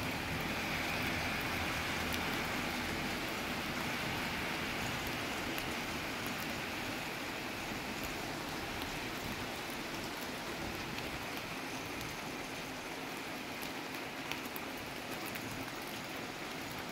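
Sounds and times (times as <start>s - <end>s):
heavy rain falling: 0.0s - 16.9s
raindrops ticking on surfaces: 0.0s - 16.9s.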